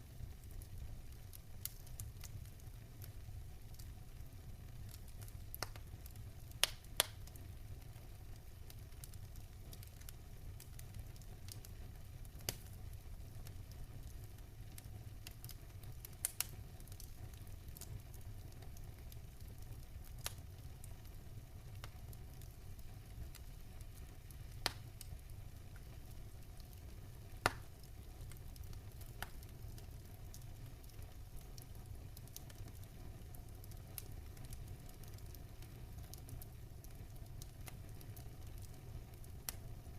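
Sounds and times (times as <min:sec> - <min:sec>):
fireplace fire rumble: 0:00.0 - 0:39.9
logs crackling and popping: 0:00.3 - 0:03.9, 0:04.6 - 0:39.9.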